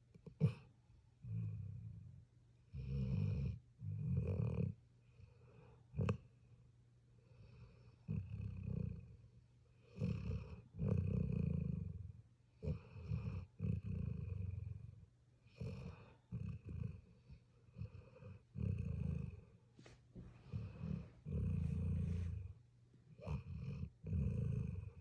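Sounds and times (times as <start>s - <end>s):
puppy snoring: 0.1s - 6.5s, 7.2s - 25.0s.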